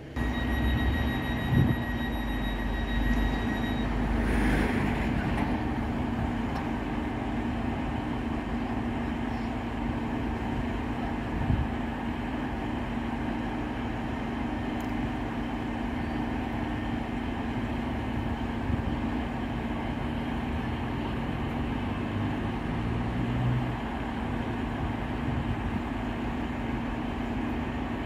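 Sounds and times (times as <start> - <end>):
diesel engines idling: 0.0 - 28.0.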